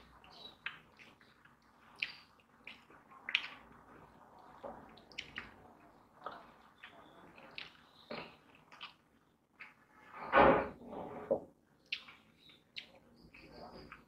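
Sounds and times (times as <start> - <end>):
chewing noises: 0.0 - 9.9, 11.8 - 14.0.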